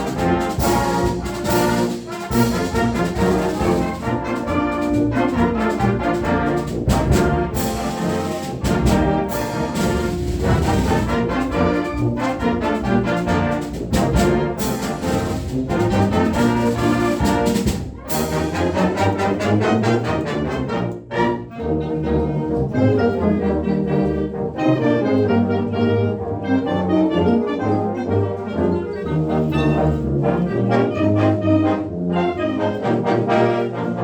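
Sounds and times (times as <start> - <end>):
brass band playing a march: 0.0 - 34.0.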